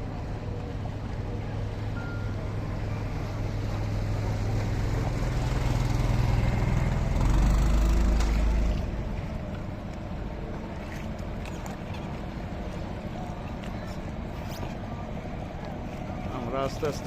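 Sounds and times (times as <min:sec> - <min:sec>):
motorboat engine: 0:00.0 - 0:17.0.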